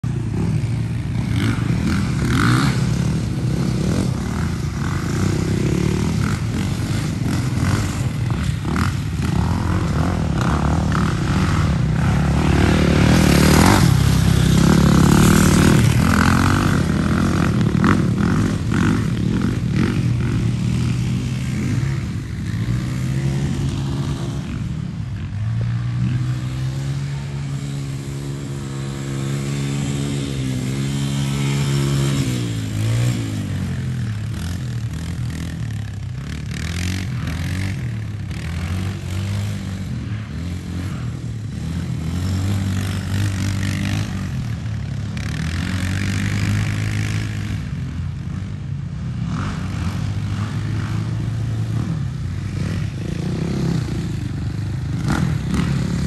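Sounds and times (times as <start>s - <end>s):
dirt bike engine revving: 0.0s - 56.0s
dirt bike passing close: 0.0s - 56.0s
four-wheeler engine approaching: 0.0s - 56.0s.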